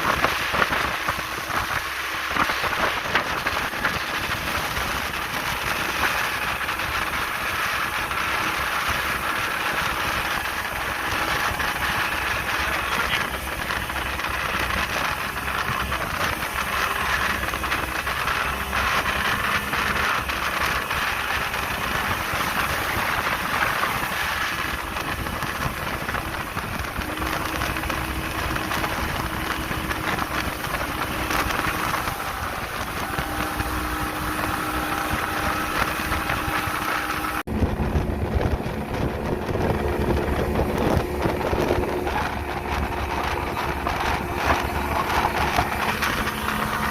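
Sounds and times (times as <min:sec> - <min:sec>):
rushing water: 0:00.0 - 0:46.9
speedboat engine drone: 0:00.0 - 0:46.9
wind: 0:00.0 - 0:46.9.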